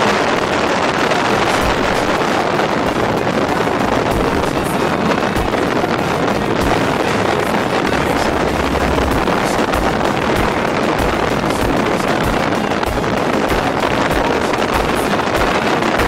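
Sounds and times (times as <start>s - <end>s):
boat motor: 0.0s - 16.0s
water rushing: 0.0s - 16.0s
wind buffeting microphone: 0.0s - 16.0s.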